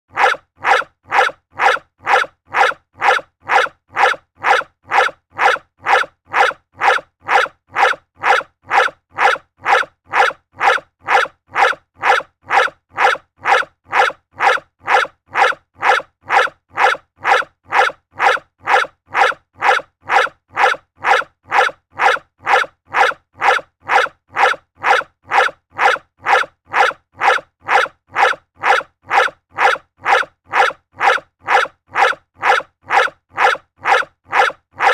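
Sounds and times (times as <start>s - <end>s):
dog barking: 0.1s - 34.9s.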